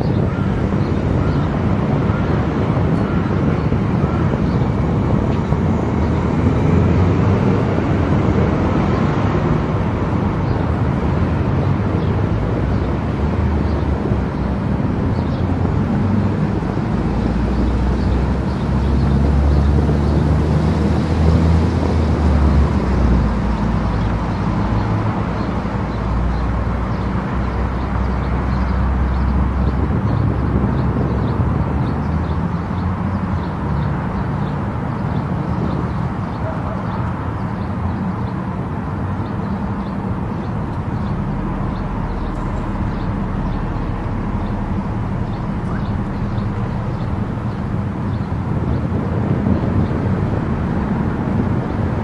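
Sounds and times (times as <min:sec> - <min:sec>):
car engine drone: 0:00.0 - 0:52.0
road and tyre noise: 0:00.0 - 0:52.0.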